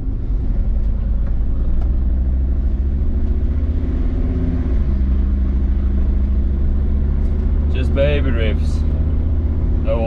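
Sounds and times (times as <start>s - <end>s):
diesel engine low drone: 0.0s - 10.0s.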